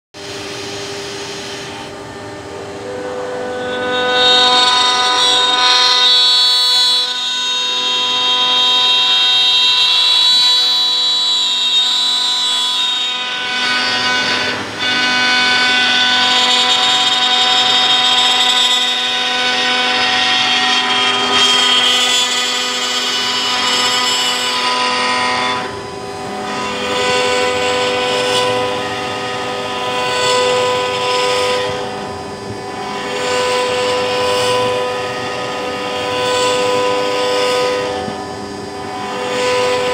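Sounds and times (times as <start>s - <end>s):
router spindle high whine: 0.2s - 39.9s.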